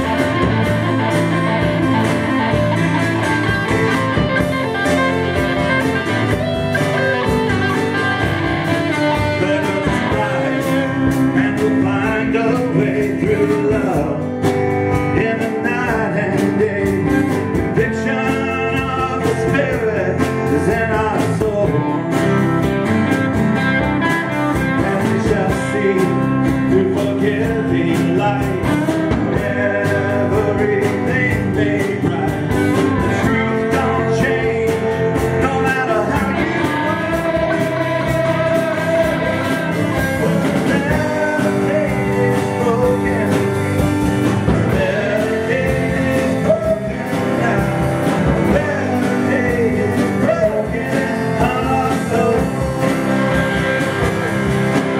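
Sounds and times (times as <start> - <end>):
acoustic guitar: 0.0 - 54.9
drum kit: 0.0 - 54.9
electric bass: 0.0 - 54.9
electric guitar: 0.0 - 54.9.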